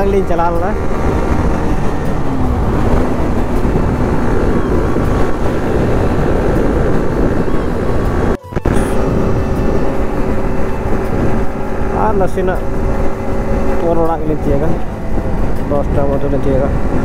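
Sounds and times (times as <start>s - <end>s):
motorcycle engine: 0.0s - 17.0s
wind rushing over microphone: 0.0s - 17.0s.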